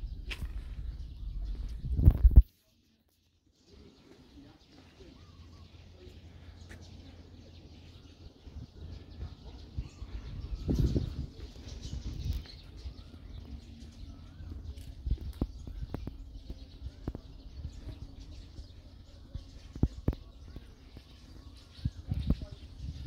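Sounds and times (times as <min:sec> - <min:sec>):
low rumble on microphone: 0:00.0 - 0:02.5, 0:05.3 - 0:23.0
birds chirping faintly: 0:00.0 - 0:23.0.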